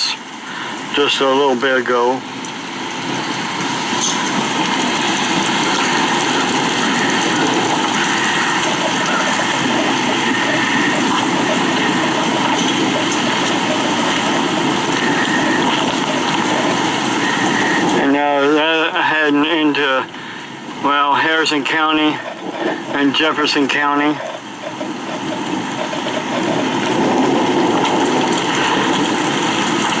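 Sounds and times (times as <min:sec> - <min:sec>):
storm rain: 0:00.0 - 0:30.0
wind: 0:00.0 - 0:30.0.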